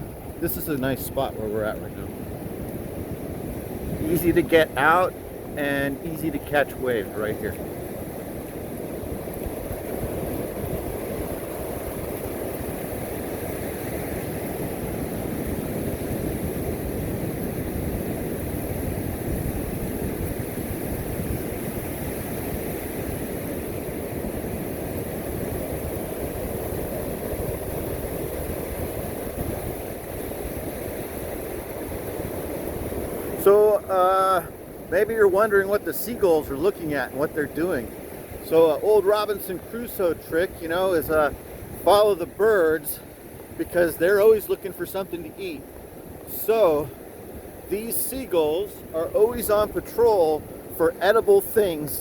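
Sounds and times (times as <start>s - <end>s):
wind buffeting microphone: 0.0s - 33.8s, 34.5s - 52.0s
ocean surf: 0.0s - 52.0s.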